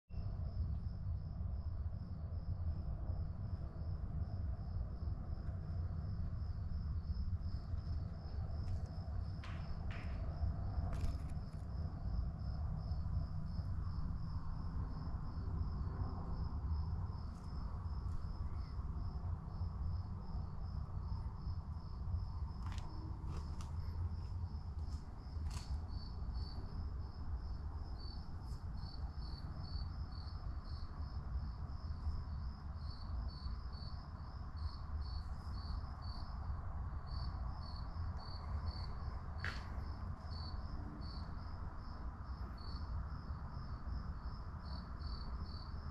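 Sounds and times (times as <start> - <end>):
crickets chirping: 0.1 - 45.9
lower-pitched cricket chirping: 0.1 - 45.9.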